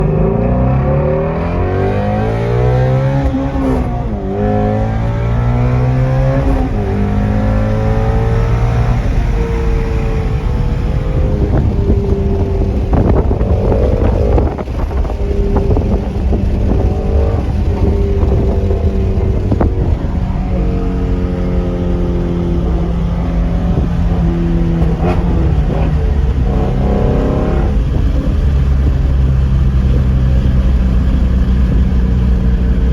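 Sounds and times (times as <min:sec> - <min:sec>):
car engine revving: 0:00.0 - 0:32.9
exhaust cracks: 0:00.0 - 0:32.9.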